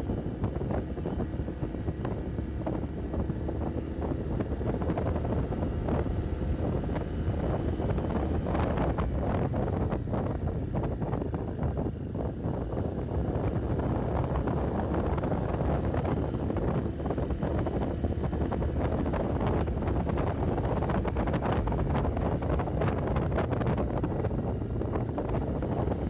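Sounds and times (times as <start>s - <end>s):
motorcycle engine running: 0.0s - 26.0s
tyres on road: 0.0s - 26.0s
wind buffeting microphone: 0.0s - 26.0s.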